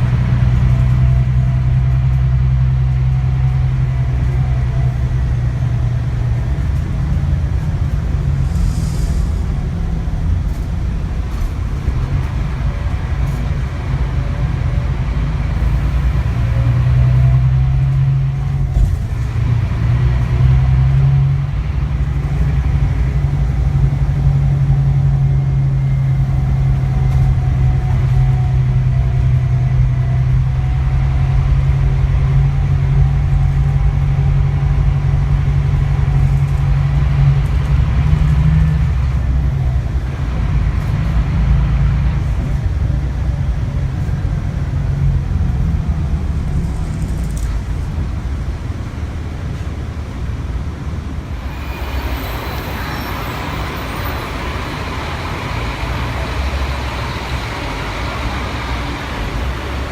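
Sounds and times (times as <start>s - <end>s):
bus engine drone: 0.0s - 59.9s
low road rumble: 0.0s - 59.9s.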